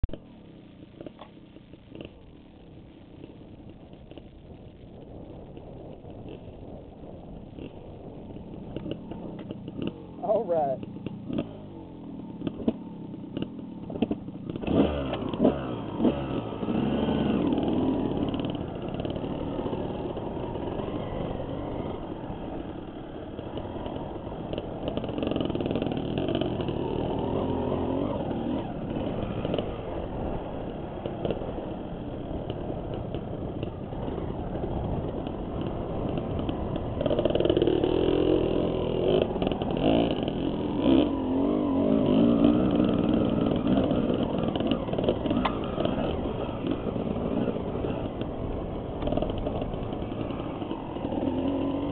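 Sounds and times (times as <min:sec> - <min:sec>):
dirt bike engine revving: 0:07.5 - 0:51.9.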